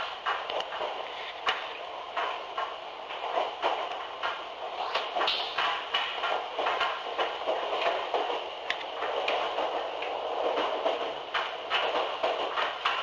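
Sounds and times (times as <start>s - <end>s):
train cabin running noise: 0.0s - 13.0s
irregular clicks and knocks: 0.2s - 13.0s.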